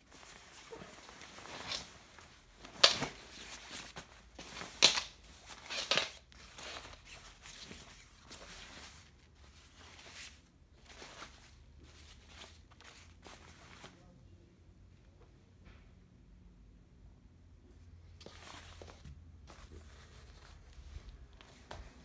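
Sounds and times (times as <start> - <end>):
jacket fabric rustling: 0.0 - 14.0, 18.0 - 22.0.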